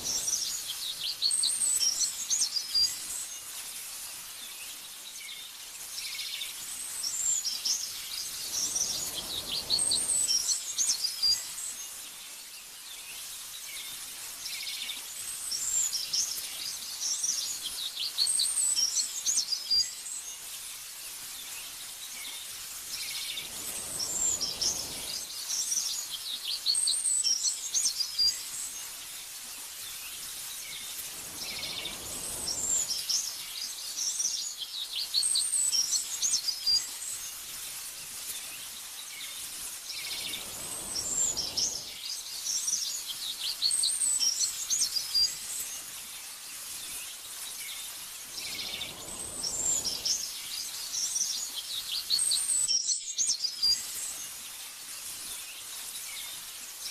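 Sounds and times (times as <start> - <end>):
gentle wind: 0.0 - 56.9
small birds chirping and twittering: 0.0 - 56.9
soft steady hiss: 0.0 - 56.9.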